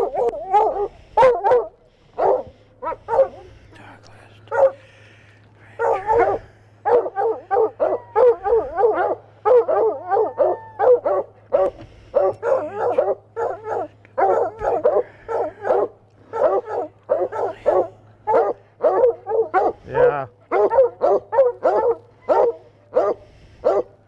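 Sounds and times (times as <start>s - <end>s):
hounds barking and yipping: 0.0s - 3.7s, 4.4s - 4.9s, 5.7s - 24.0s
steady low hum: 0.0s - 24.0s.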